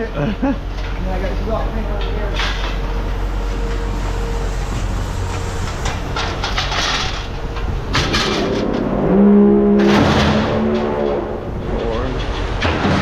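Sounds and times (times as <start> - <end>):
steady pitched drone: 0.0 - 12.4
machine rumble: 0.0 - 13.0
scrap metal clattering: 0.7 - 13.0.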